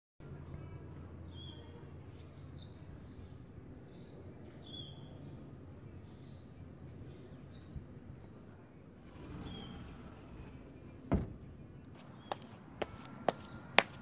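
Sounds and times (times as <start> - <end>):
low background rumble: 0.2 - 13.8
birds chirping: 0.2 - 14.0.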